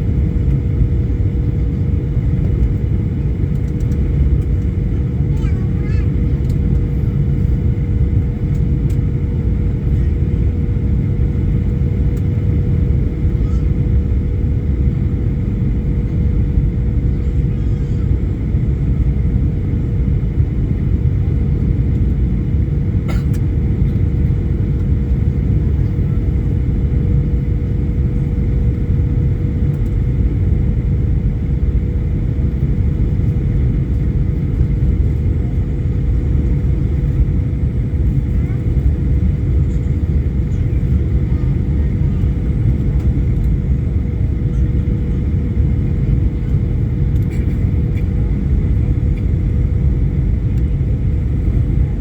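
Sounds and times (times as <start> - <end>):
constant hum: 0.0 - 52.0.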